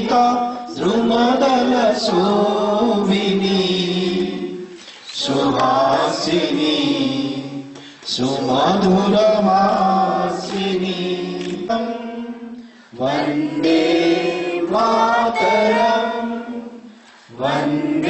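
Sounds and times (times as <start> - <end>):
group of people singing in unison: 0.0 - 18.0.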